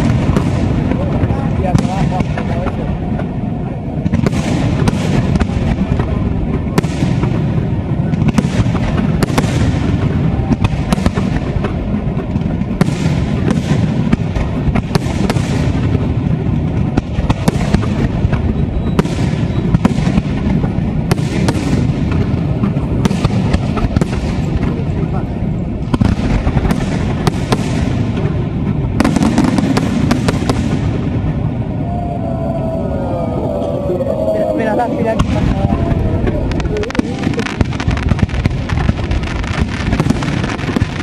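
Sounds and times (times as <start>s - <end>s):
sharp firework bangs: 0.0s - 31.8s, 35.0s - 41.0s
fireworks launches and bursts: 0.0s - 41.0s.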